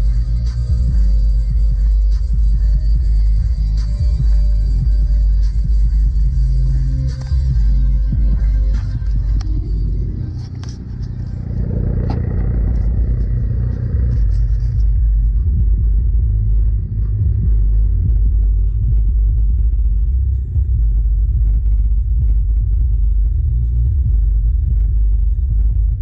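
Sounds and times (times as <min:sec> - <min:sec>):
deep pulsing subwoofer bass: 0:00.0 - 0:26.0.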